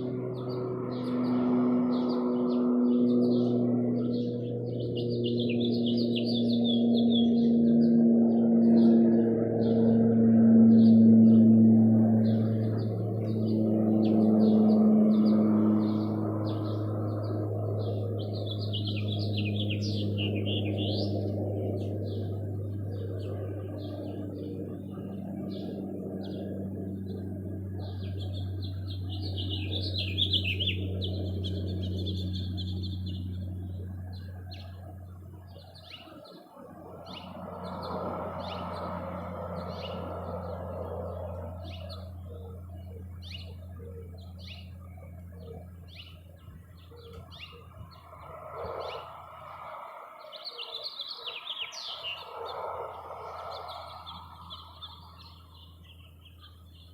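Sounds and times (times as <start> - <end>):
birds chattering squabble: 0.0 - 56.9
low hum: 0.0 - 56.9
small birds chirping: 0.0 - 56.9.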